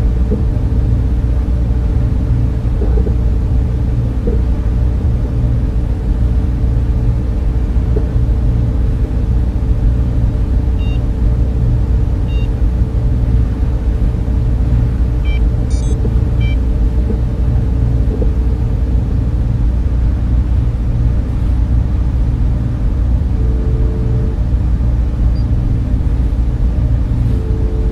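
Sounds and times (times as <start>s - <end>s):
cooling fans and machines running: 0.0s - 27.9s.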